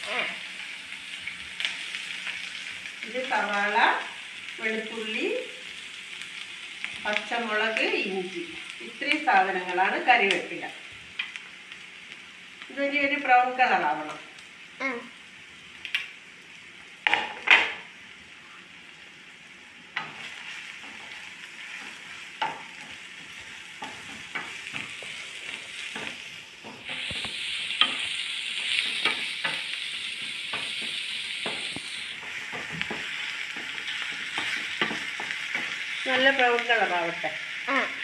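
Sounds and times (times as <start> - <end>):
food sizzling in hot oil: 0.0 - 38.0.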